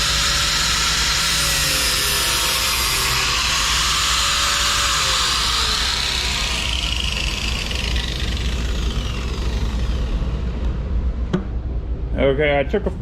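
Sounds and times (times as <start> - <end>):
electric grinder sharpening blade: 0.0 - 10.5.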